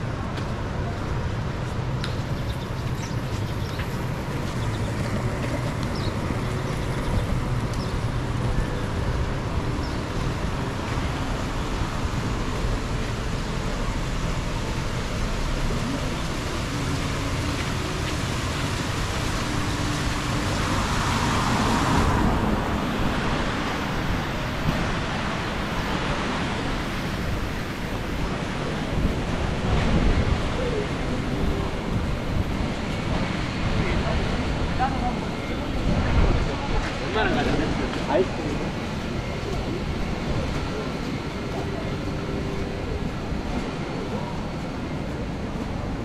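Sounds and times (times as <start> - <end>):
passing cars: 0.0 - 46.0
wind rumbling on microphone: 0.0 - 46.0.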